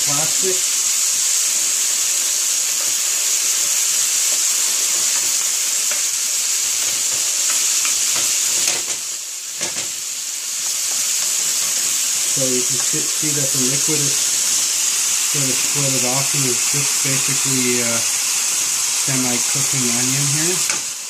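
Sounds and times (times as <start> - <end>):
vegetables sizzling in frying pan: 0.0 - 21.0.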